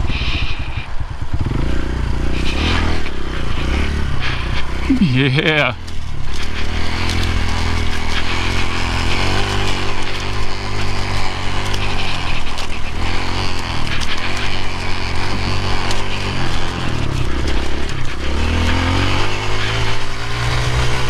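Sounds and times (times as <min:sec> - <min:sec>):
loud dirt bike engine: 0:00.0 - 0:21.0.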